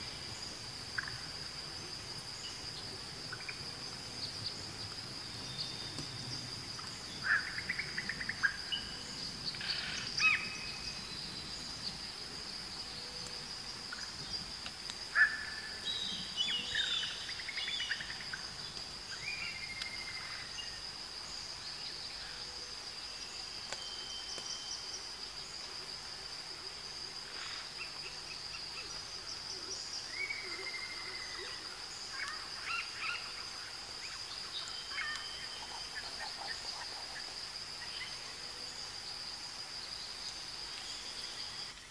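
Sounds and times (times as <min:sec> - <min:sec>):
insects droning: 0:00.0 - 0:41.9.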